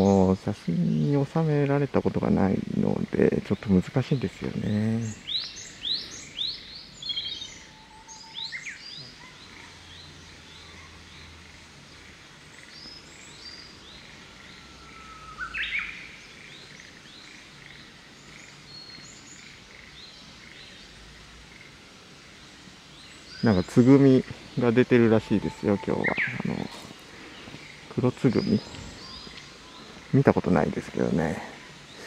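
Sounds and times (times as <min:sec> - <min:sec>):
warbler whistling song: 0:00.0 - 0:02.6, 0:03.3 - 0:21.0, 0:22.3 - 0:32.0
songbirds chirping: 0:00.0 - 0:32.0.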